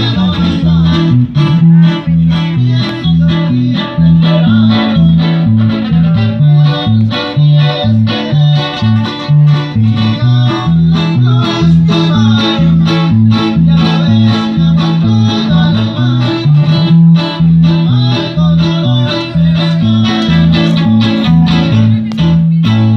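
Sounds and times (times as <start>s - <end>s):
band playing guitars bass and beat: 0.0s - 22.9s.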